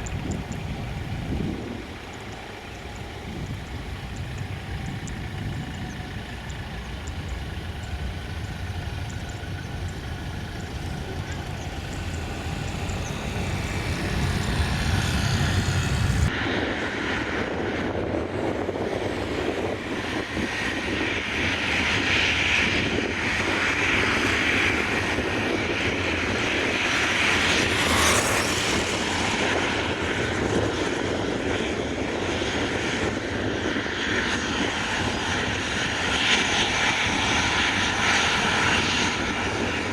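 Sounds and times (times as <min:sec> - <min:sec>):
airliner engines running: 0:00.0 - 0:39.9.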